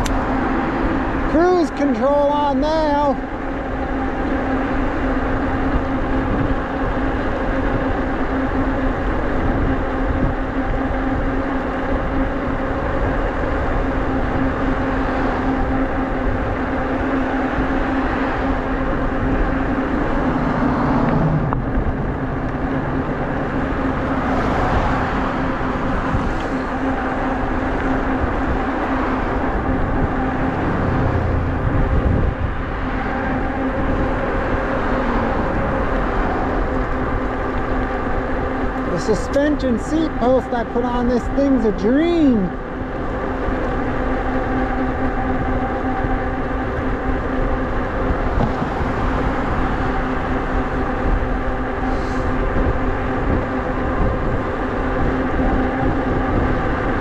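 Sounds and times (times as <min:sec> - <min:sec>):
electric motor hum: 0:00.0 - 0:57.0
tyres rolling on asphalt: 0:00.0 - 0:57.0
wind rumble on microphone: 0:03.2 - 0:57.0.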